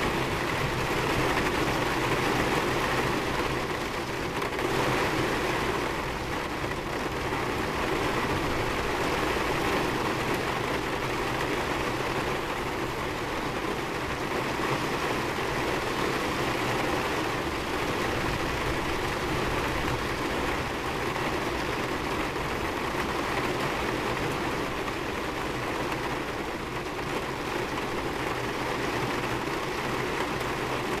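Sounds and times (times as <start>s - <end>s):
heavy rain on a car roof: 0.0s - 31.0s.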